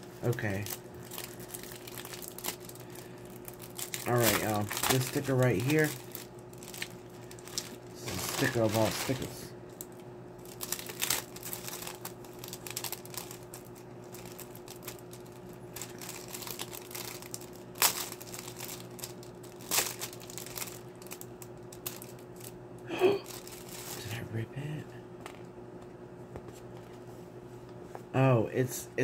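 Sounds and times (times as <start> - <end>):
faint steady hum: 0.0 - 29.0
plastic sleeve crinkling: 0.1 - 22.6, 23.2 - 24.1.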